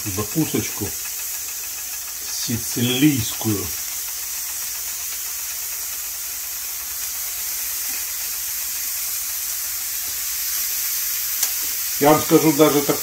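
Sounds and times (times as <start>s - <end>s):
food sizzling on a grill: 0.0s - 13.0s.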